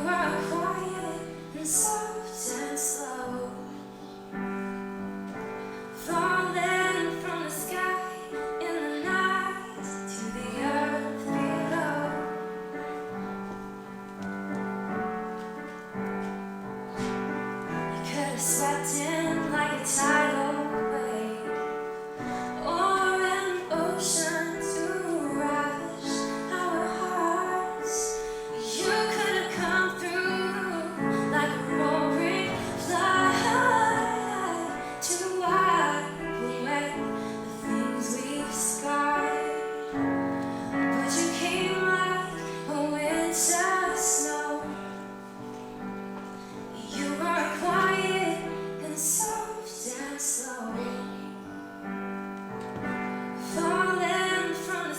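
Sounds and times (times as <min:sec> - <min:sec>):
woman singing: 0:00.0 - 0:04.8, 0:05.8 - 0:12.8, 0:17.7 - 0:45.4, 0:46.5 - 0:51.7, 0:52.9 - 0:54.9
piano chords: 0:00.0 - 0:54.9.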